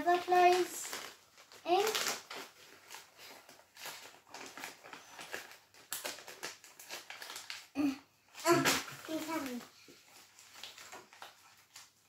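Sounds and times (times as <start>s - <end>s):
plastic bag tearing: 0.0s - 12.0s
plastic packaging crinkling: 0.0s - 12.0s.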